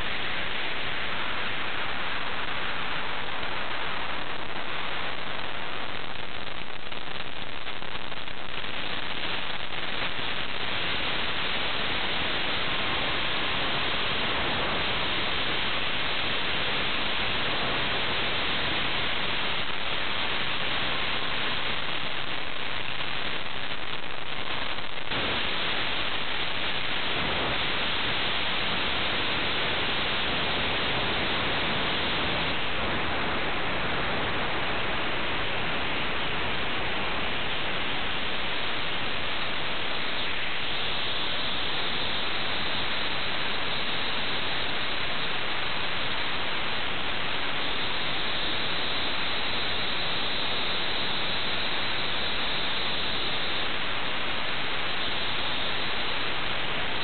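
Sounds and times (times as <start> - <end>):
static-like hiss: 0.0 - 57.0.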